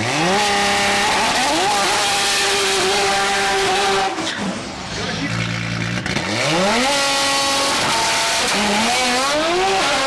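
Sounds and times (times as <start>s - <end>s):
drag car engine at full throttle: 0.0s - 10.0s.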